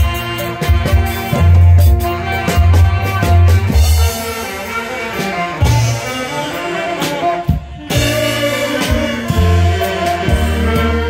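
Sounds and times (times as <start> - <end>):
deep bass line: 0.0 - 6.6, 7.4 - 11.0
saxophone ensemble playing: 0.0 - 11.0.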